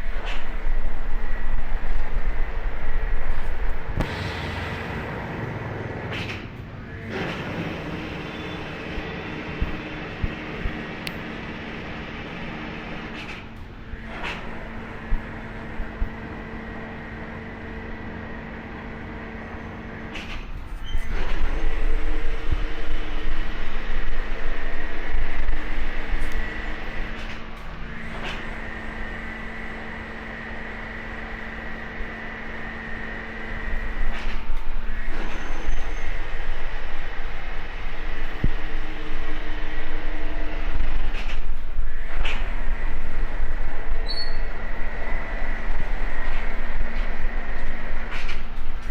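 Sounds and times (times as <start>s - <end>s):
hydraulic pump hum and whine: 0.0s - 48.9s
low machine rumble: 0.0s - 48.9s.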